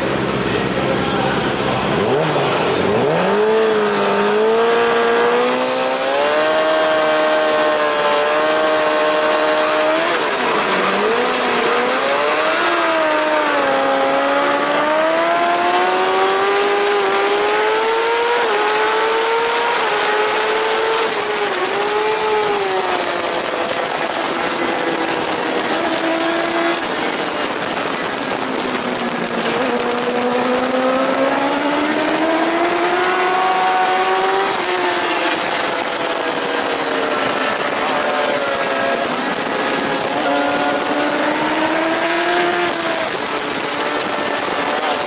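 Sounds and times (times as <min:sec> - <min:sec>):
superbike engine revving: 0:00.0 - 0:45.0.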